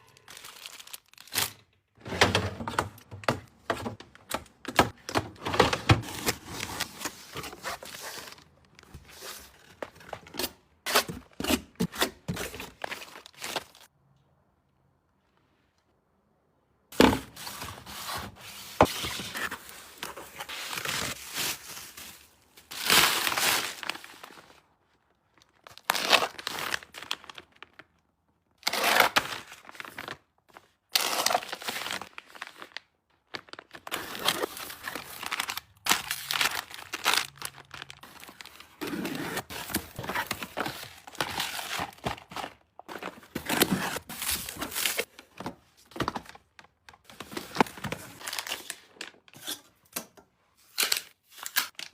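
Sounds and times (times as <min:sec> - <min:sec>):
packaging crinkling and rustling: 0:00.1 - 0:01.7, 0:02.6 - 0:13.9, 0:17.4 - 0:49.6.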